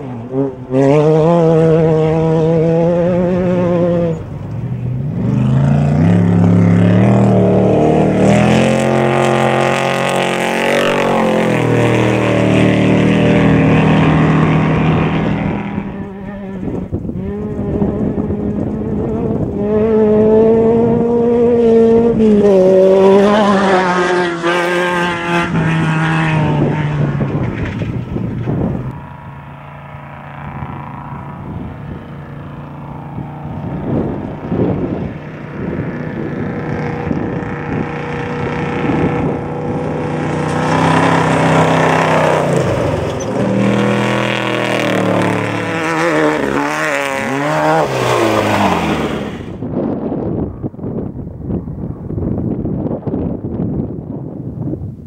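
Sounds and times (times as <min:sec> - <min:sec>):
truck engines revving past: 0:00.0 - 0:51.0.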